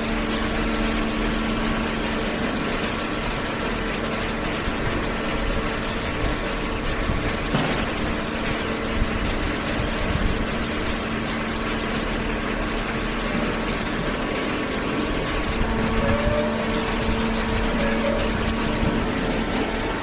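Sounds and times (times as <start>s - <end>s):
hydraulic machine hum: 0.0s - 20.0s.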